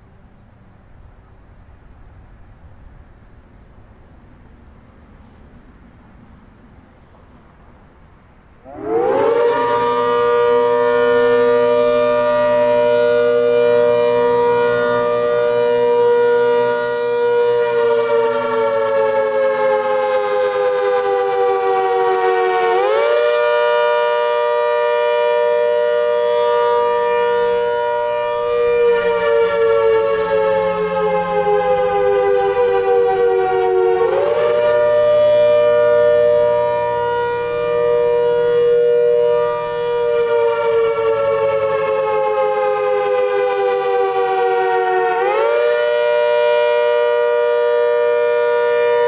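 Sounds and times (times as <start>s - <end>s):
mechanical siren rising and falling: 8.6s - 49.0s.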